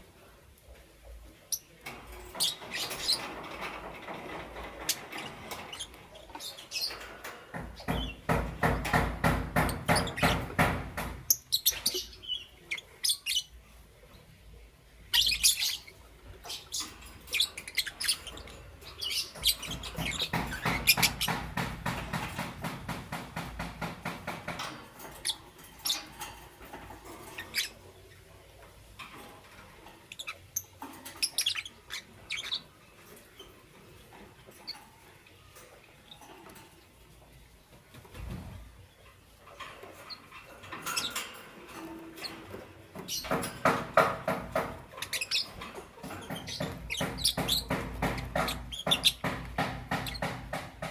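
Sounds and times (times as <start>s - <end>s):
lovebirds chirping: 1.1s - 50.9s.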